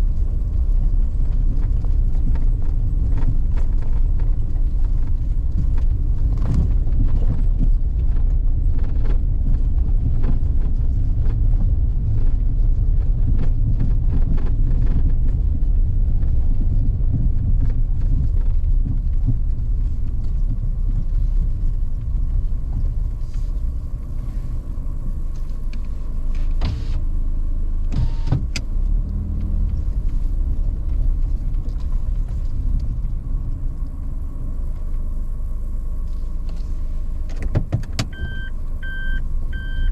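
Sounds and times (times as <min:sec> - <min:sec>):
light clicks and rattles: 0:00.0 - 0:38.2
car engine and road noise: 0:00.0 - 0:39.9.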